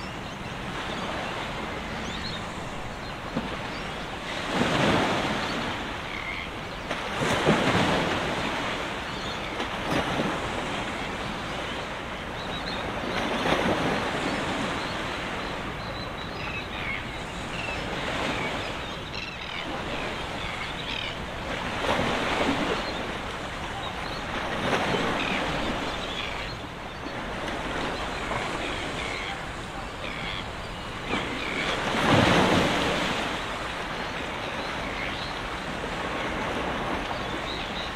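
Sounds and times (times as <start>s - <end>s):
small waves splashing at shore: 0.0s - 37.9s.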